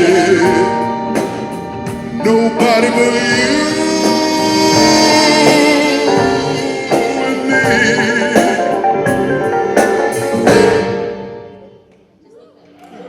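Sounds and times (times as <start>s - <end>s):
soul band playing chords: 0.0s - 11.9s
drum and cymbal hits: 0.4s - 11.4s.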